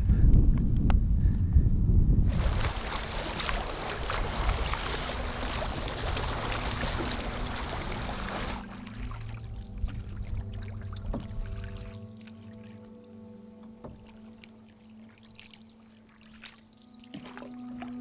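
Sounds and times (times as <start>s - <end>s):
water sloshing and lapping: 2.3s - 18.0s.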